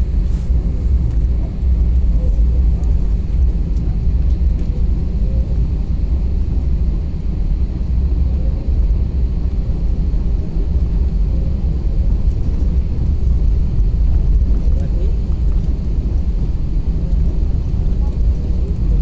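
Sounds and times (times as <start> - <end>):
jet engines low rumble: 0.0 - 19.0.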